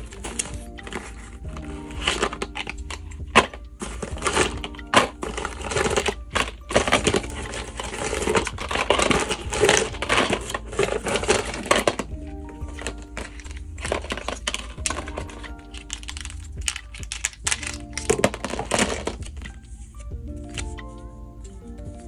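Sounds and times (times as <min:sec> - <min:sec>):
small boxes clattering onto table: 0:00.0 - 0:19.5
cardboard box rustling: 0:00.0 - 0:20.8.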